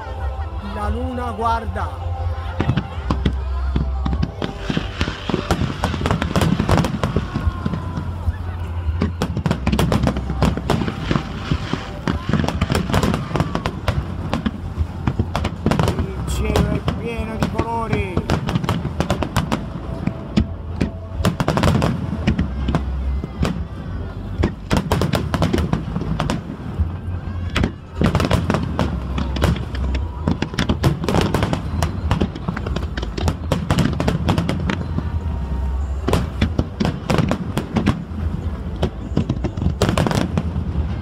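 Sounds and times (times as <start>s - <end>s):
fireworks bangs and crackles: 0.0s - 41.0s
low rumble: 0.0s - 41.0s.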